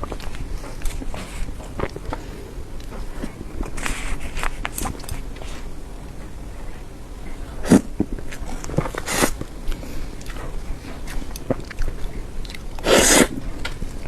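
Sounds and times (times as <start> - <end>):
noisy rush: 0.0 - 14.0
wet chewing: 0.0 - 14.0.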